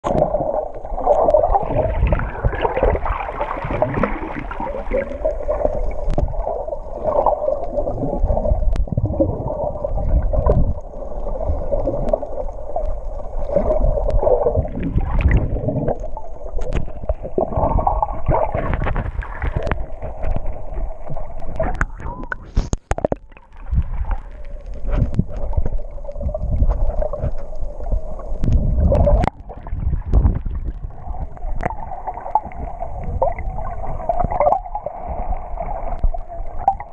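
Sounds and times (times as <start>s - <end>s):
water swishing and gurgling: 0.0s - 36.9s.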